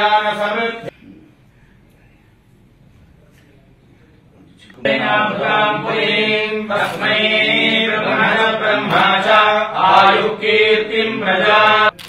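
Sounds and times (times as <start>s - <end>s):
men chanting mantras: 0.0s - 2.4s, 3.8s - 12.0s.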